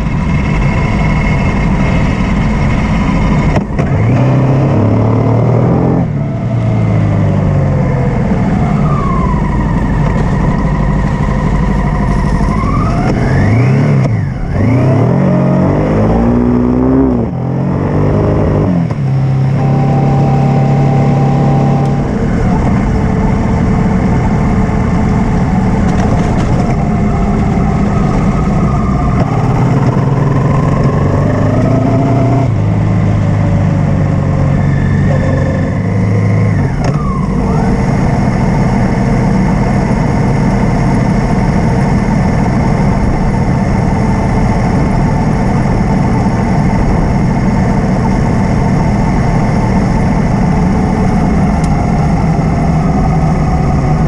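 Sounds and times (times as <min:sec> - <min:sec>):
motorcycle engine running: 0:00.0 - 0:04.0, 0:04.6 - 0:54.0
wind and road noise: 0:00.0 - 0:54.0.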